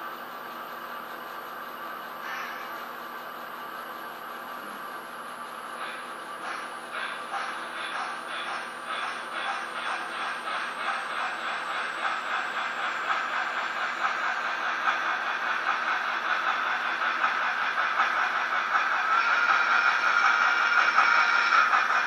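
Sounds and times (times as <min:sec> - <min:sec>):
model steam locomotives chuffing: 0:00.0 - 0:22.0.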